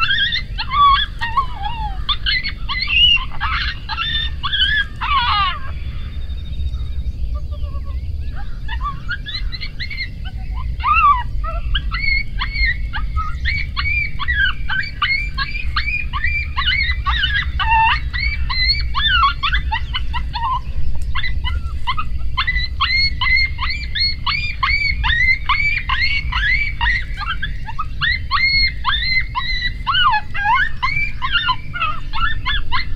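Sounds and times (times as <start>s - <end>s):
coyotes yipping and howling: 0.0s - 32.9s
steady low rumble: 0.0s - 32.9s.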